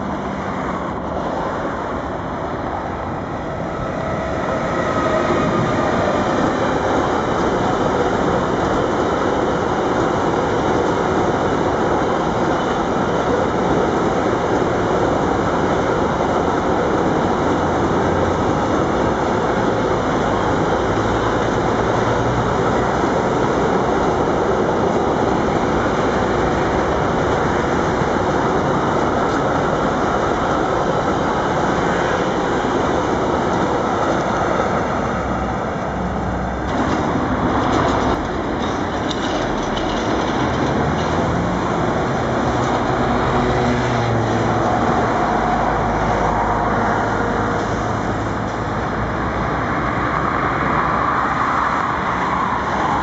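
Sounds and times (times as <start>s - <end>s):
freight train wheels rumbling: 0.0s - 53.0s.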